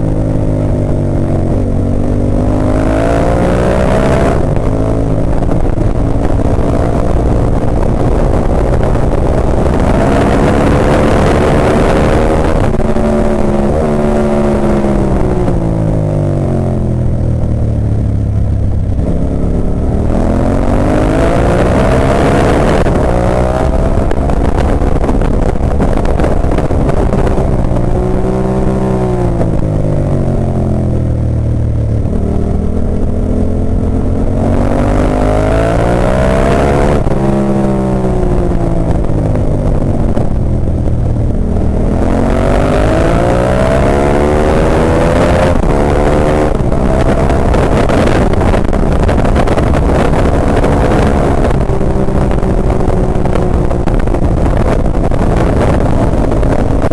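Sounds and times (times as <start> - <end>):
motorcycle engine racing: 0.0 - 56.9
wind noise: 0.0 - 56.9.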